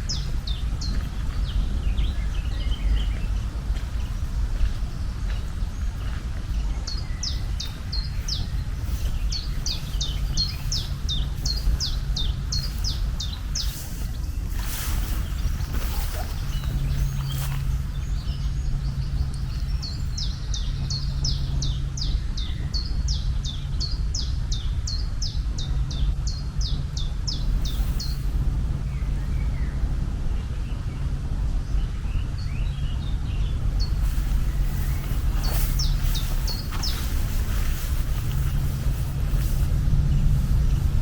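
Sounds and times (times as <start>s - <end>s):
bird chirping: 0.0s - 41.0s
low hum: 0.0s - 41.0s
steady low rumble: 0.0s - 41.0s.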